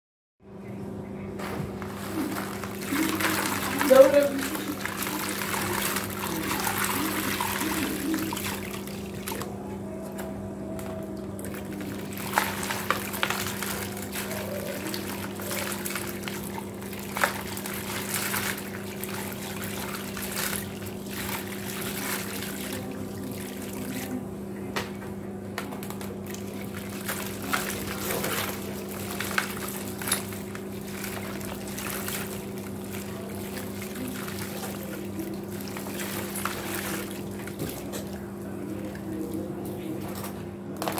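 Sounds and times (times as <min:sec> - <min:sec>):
steady low hum: 0:00.4 - 0:40.9
wet cement crunching: 0:01.4 - 0:09.5, 0:11.4 - 0:24.1, 0:25.8 - 0:39.6
water splashing and trickling: 0:01.9 - 0:09.5, 0:11.3 - 0:24.2, 0:26.0 - 0:39.5.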